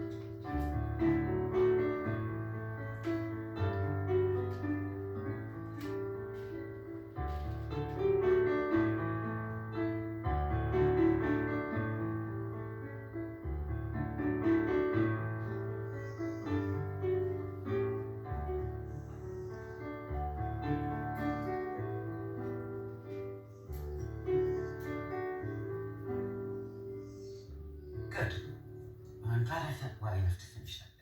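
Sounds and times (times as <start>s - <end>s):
piano background music: 0.0s - 30.8s.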